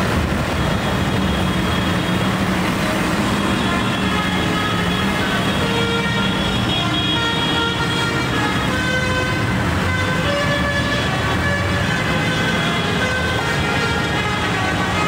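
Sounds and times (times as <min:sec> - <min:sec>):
tractor diesel engines running: 0:00.0 - 0:15.0
vehicle horns sounding: 0:00.6 - 0:15.0.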